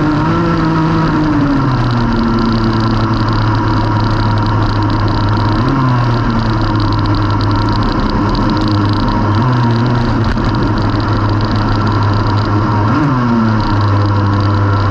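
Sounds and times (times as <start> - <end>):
racing kart engine: 0.0 - 14.9.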